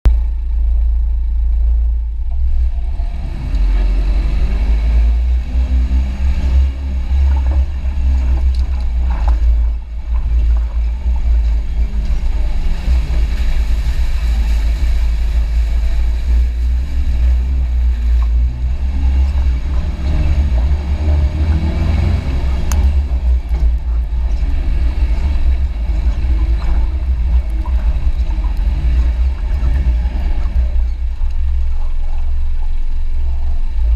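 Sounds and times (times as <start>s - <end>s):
vehicle engine rumbling: 0.0s - 33.9s
rattling noise: 0.1s - 33.9s.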